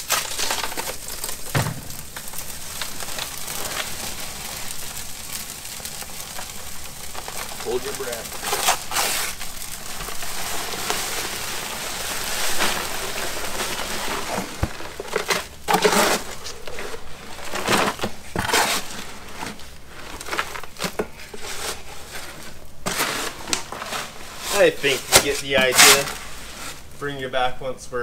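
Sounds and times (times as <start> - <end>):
dry mix pouring from paper sack: 0.0 - 27.2
shovel scraping dry mix: 0.0 - 27.3.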